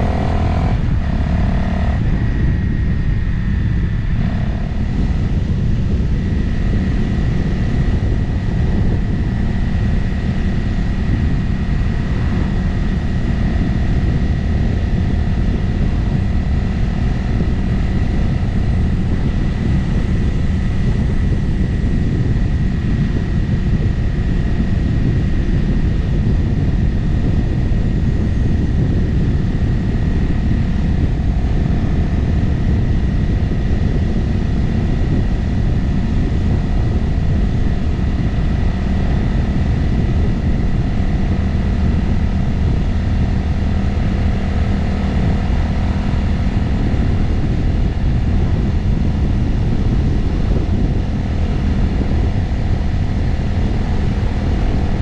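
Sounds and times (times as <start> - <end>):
motorcycle engine cruising: 0.0 - 55.0
wind rush over microphone: 0.0 - 55.0.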